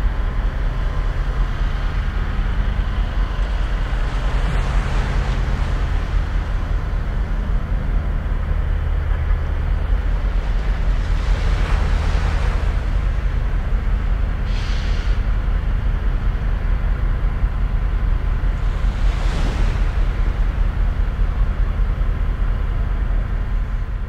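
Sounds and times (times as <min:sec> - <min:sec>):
wind and water hiss: 0:00.0 - 0:24.0.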